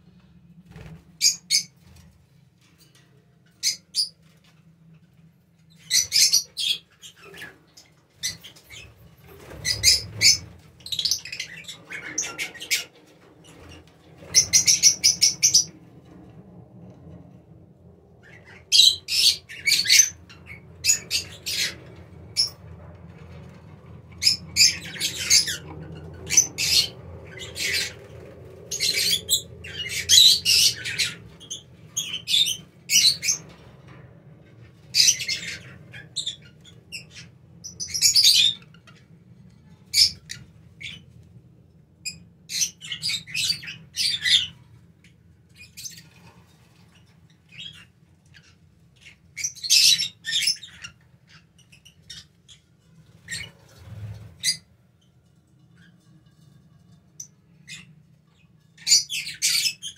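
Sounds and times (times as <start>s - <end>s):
lovebirds chirping and squawking: 0.7s - 2.0s, 3.6s - 4.6s, 5.6s - 16.2s, 18.2s - 41.3s, 42.0s - 54.7s, 55.7s - 59.9s.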